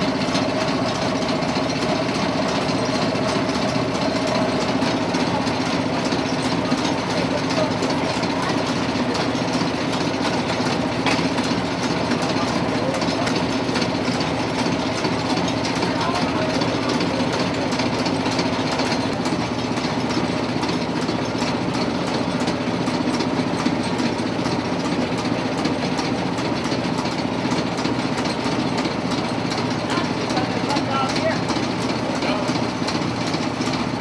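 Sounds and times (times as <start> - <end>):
small gas engine clattering: 0.0 - 34.0.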